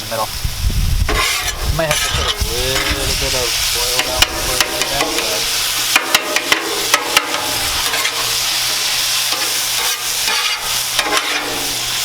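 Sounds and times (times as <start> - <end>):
fish sizzling on griddle: 0.0 - 12.0.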